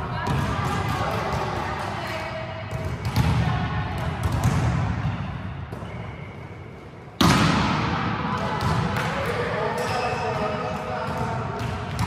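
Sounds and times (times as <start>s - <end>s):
volleyballs hit and bouncing: 0.0s - 12.0s.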